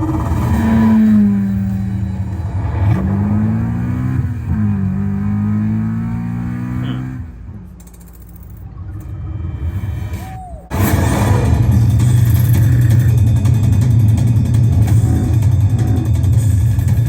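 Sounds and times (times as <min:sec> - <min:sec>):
engine revving: 0:00.0 - 0:08.0, 0:09.0 - 0:17.0.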